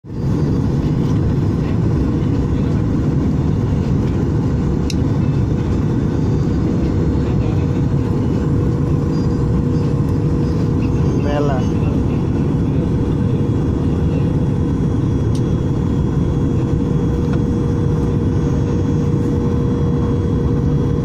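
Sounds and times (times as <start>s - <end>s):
jet cabin rumble: 0.1s - 21.0s
steady hum: 0.1s - 21.0s.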